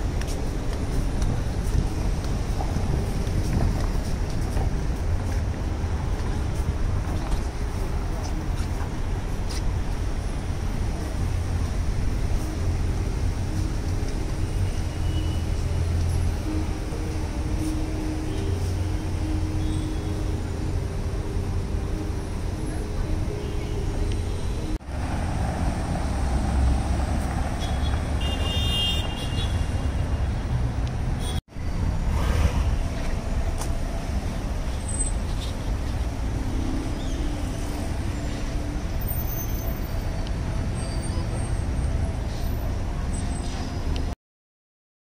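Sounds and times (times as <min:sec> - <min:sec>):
street traffic rumble: 0:00.0 - 0:44.2.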